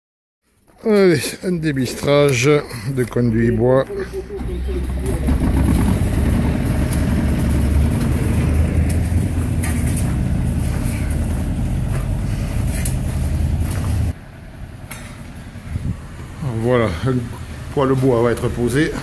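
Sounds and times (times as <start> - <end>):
vacuum unit rumbling: 2.9 - 19.0.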